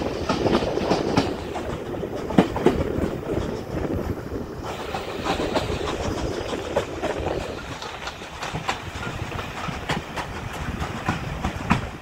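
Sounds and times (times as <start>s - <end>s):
clickety-clack over rail joints: 0.0s - 12.0s
train wheels rumbling on track: 0.0s - 12.0s.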